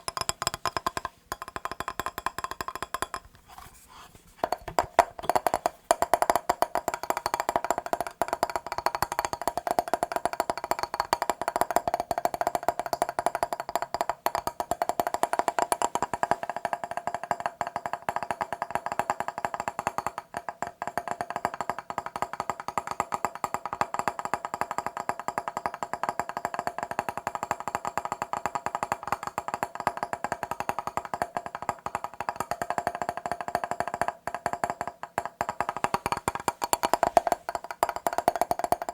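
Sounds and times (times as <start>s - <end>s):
rapid tapping on glass mirror: 0.0s - 3.4s, 4.4s - 38.9s.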